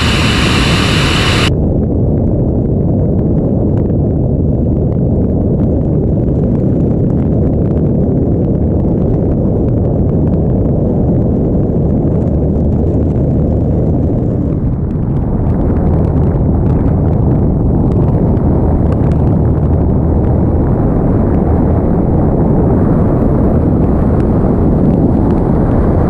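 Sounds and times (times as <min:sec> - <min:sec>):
light aircraft engine in flight: 0:00.0 - 0:26.0.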